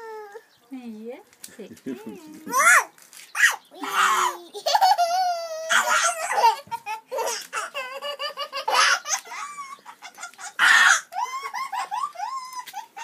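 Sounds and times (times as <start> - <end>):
small child giggling and squealing: 2.0 - 13.0.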